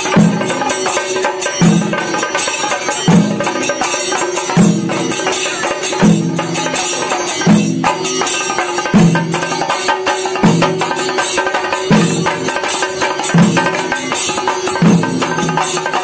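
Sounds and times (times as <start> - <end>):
drums beaten with sticks: 0.0 - 16.0.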